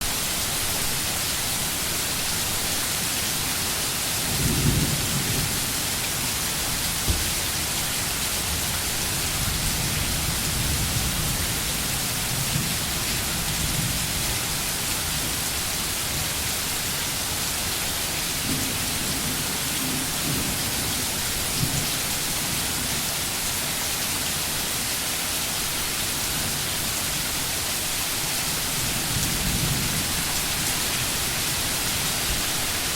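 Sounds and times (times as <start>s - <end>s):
steady rain hiss: 0.0s - 32.9s.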